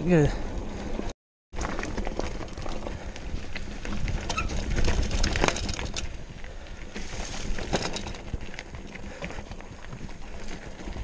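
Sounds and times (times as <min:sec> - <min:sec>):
bike rattling: 0:00.0 - 0:11.0.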